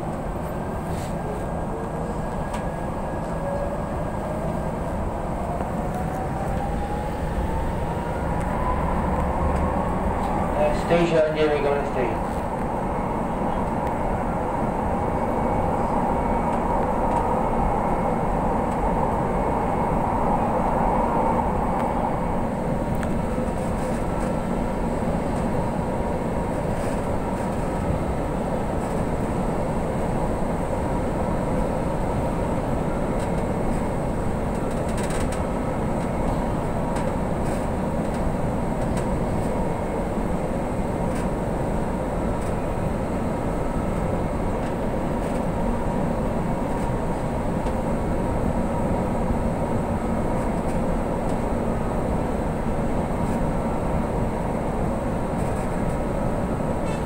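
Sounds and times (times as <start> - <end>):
train wheels and motors rumbling: 0.0 - 57.0.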